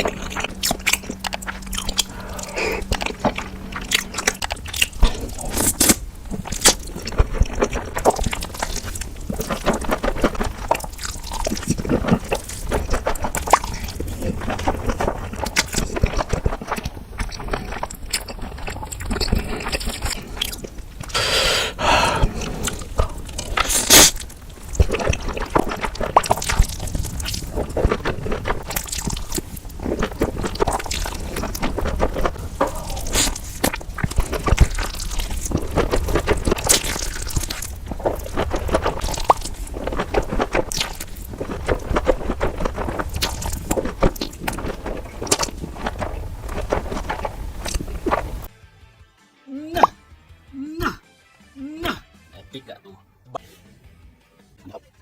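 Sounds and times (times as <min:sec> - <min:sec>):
chewing with crunching: 0:00.0 - 0:48.5
wet smacking mouth noises: 0:00.0 - 0:48.5, 0:49.6 - 0:50.0.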